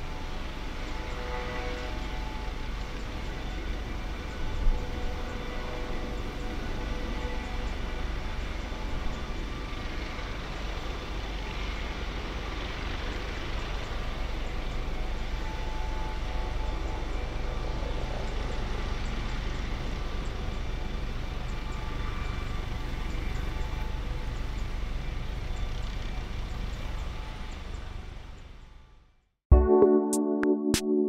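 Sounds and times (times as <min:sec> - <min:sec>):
helicopter rotor noise: 0:00.0 - 0:28.6
helicopter turbine whine: 0:00.0 - 0:28.9.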